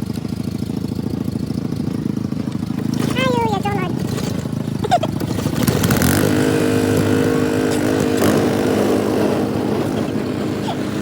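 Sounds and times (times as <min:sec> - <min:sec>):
small gasoline engine droning: 0:00.0 - 0:11.0.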